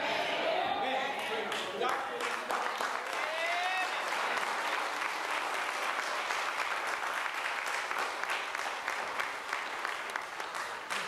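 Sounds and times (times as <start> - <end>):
congregation clapping: 1.2 - 11.0.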